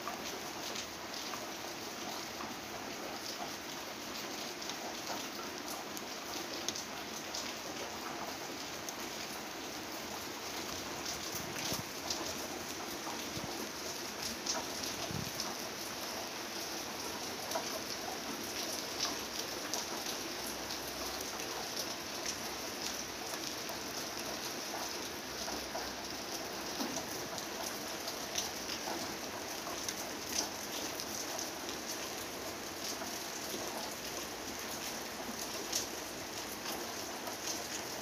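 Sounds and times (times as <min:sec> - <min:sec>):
rain falling on leaves: 0:00.0 - 0:38.0.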